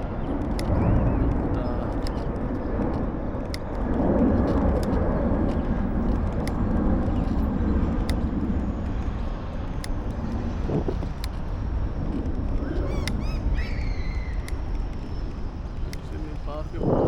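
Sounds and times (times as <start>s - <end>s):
passing traffic: 0.0s - 17.0s
wind and road noise: 0.0s - 17.0s.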